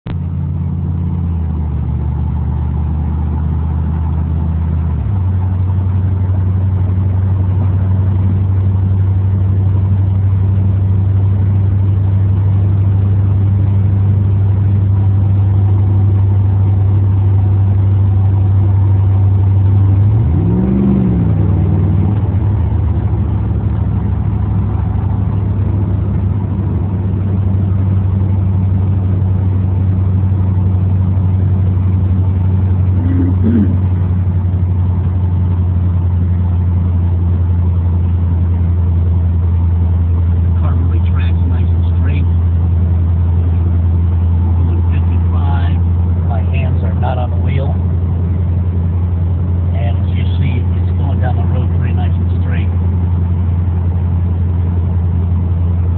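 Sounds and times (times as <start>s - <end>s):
car engine droning inside cabin: 0.0s - 55.9s.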